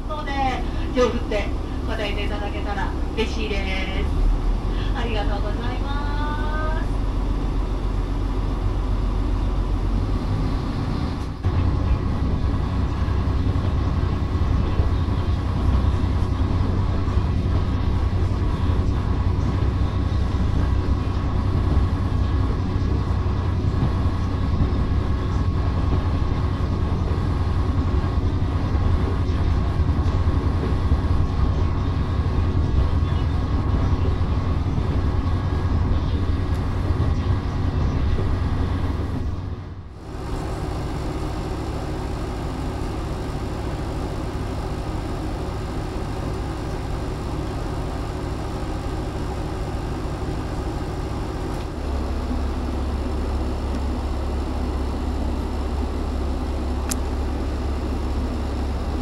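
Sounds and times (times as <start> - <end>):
diesel engine drone: 0.0 - 59.0
faint steady whine: 0.0 - 59.0
train wheel rumble: 0.0 - 59.0.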